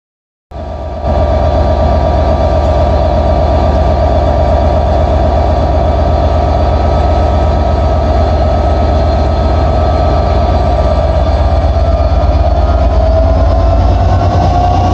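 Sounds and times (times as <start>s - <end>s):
diesel locomotive engine rumbling: 0.5s - 14.9s.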